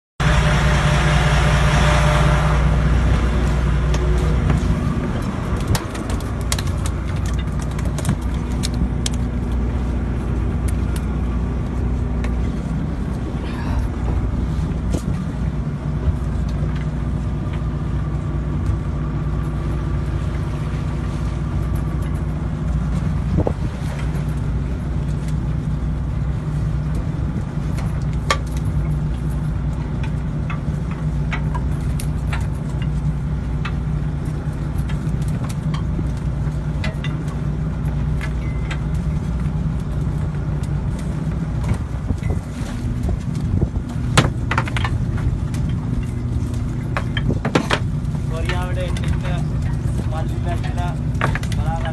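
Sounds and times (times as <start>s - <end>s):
boat engine running: 0.2s - 51.9s.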